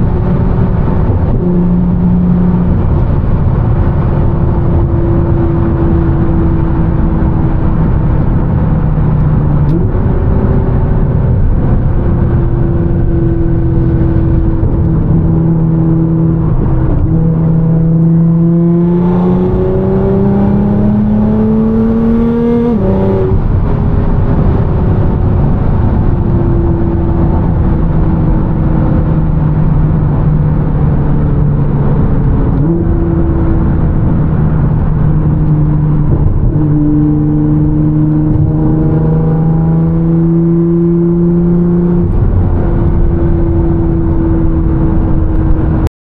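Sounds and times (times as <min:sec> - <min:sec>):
car engine and exhaust drone: 0:00.0 - 0:45.9
road noise: 0:00.0 - 0:45.9.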